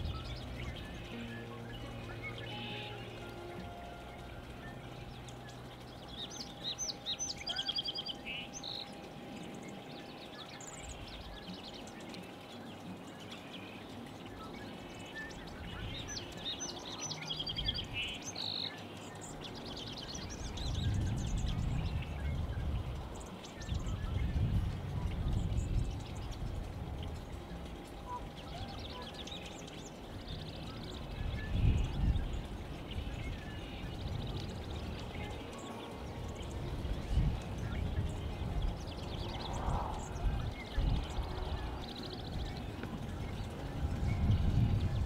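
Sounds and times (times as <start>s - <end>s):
songbird singing: 0.0s - 45.0s.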